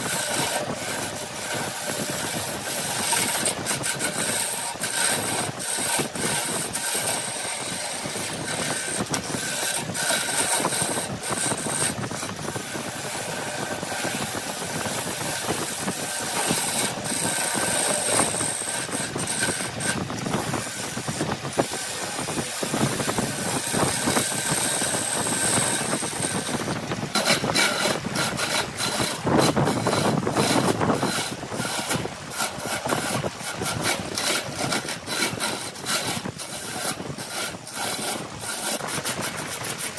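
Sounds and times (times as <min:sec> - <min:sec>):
lathe motor running: 0:00.0 - 0:39.9
turning tool scraping wood: 0:00.0 - 0:39.9.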